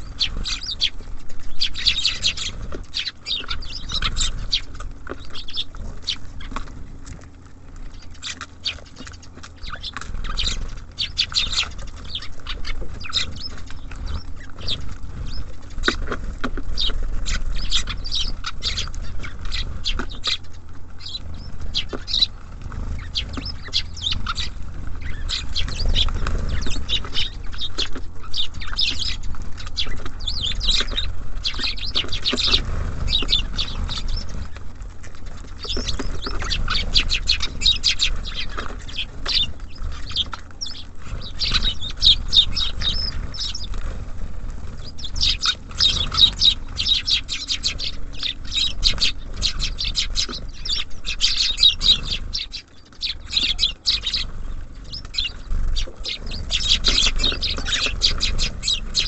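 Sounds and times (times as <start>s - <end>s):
low steady rumble: 0.0s - 59.0s
small birds chirping: 0.0s - 59.0s.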